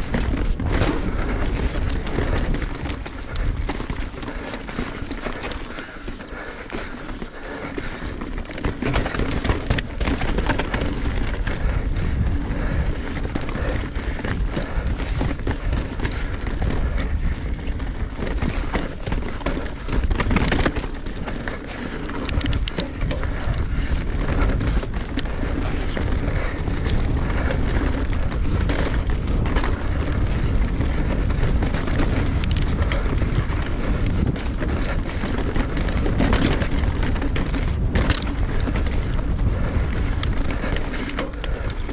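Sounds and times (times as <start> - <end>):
bike knocks and rattles: 0.0 - 41.9
tyres on dirt and rock: 0.0 - 41.9
wind buffeting microphone: 0.0 - 41.9.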